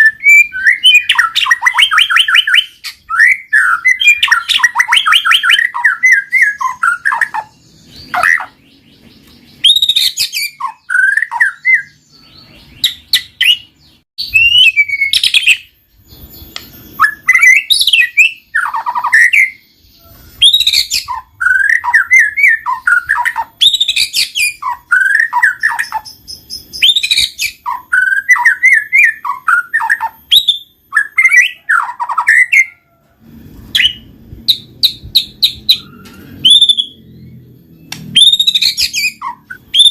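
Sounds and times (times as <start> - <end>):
bird singing whistled notes: 0.0 - 33.0, 33.7 - 39.9.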